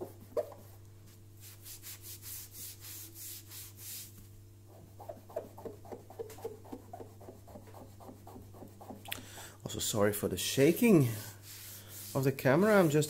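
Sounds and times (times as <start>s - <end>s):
wet sponge scrubbing: 1.1s - 9.1s, 9.7s - 13.0s.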